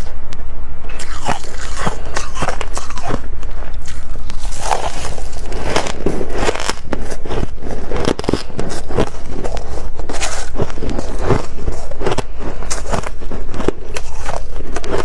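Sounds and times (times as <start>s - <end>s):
steady low hum: 0.0s - 15.0s
crunchy chewing of frost: 0.8s - 15.0s.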